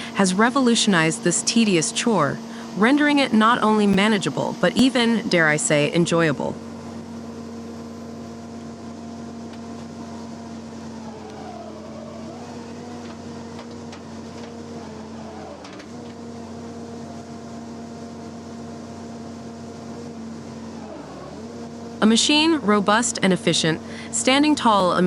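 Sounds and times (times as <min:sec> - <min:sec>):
machine engine running: 0:00.0 - 0:25.0.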